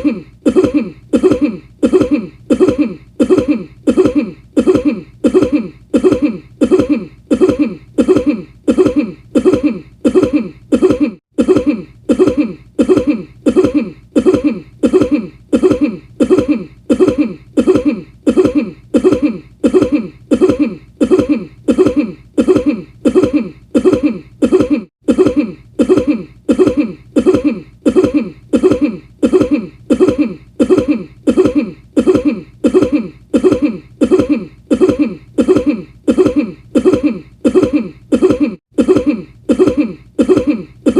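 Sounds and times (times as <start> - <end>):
person coughing: 0.0 - 40.9.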